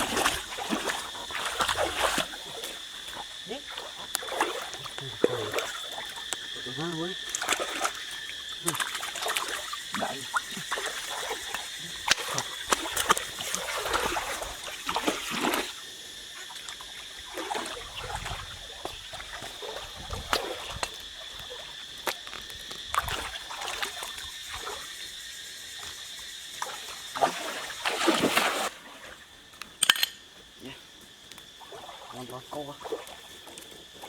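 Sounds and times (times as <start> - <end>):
water splashing and trickling: 0.0 - 25.2, 25.8 - 30.7, 31.5 - 34.0.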